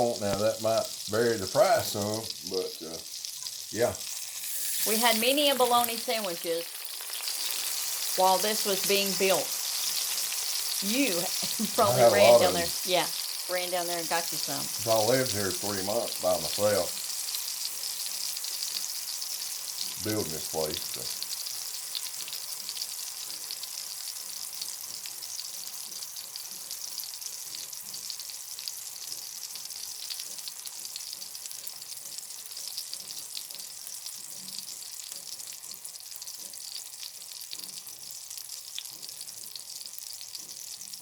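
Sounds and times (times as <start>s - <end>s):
meat sizzling in oil: 0.0s - 41.0s.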